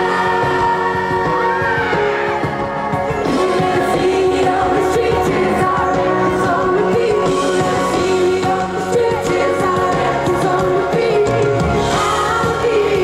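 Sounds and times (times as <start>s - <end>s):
live band playing pop: 0.0s - 13.0s
woman singing lead: 0.0s - 13.0s.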